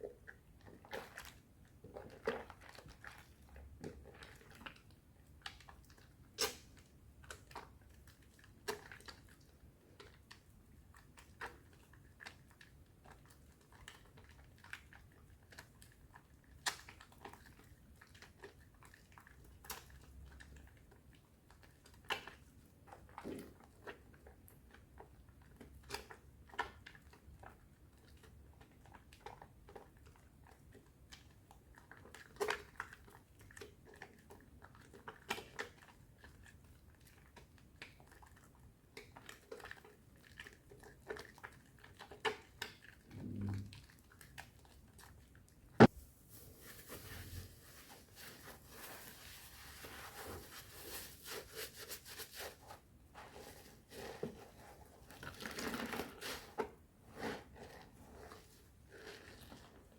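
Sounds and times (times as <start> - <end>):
wet squishes of soap lather: 0.0 - 59.9.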